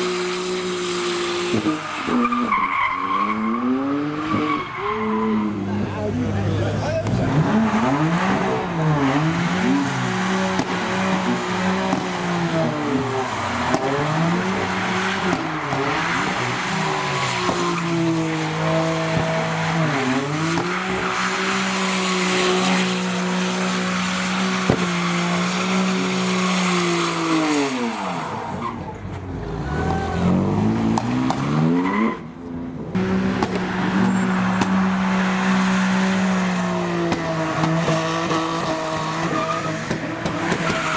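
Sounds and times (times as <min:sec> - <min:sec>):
car engine revving: 0:00.0 - 0:40.9
tyres screeching: 0:00.6 - 0:05.9, 0:06.9 - 0:30.5, 0:33.0 - 0:40.9.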